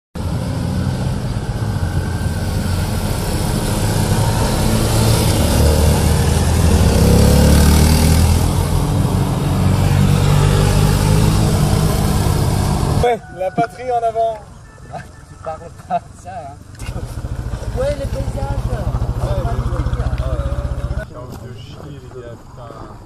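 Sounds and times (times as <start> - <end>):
small motorcycles passing: 0.2 - 23.0.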